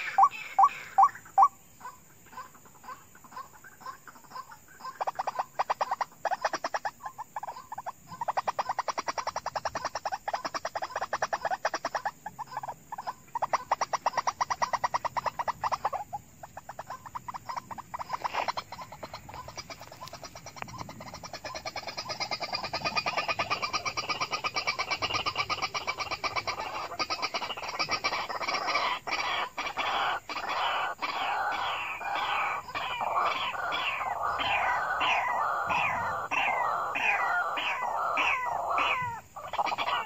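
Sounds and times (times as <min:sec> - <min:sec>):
bird calling rapid repeated notes: 0:00.0 - 0:01.6, 0:04.9 - 0:40.0.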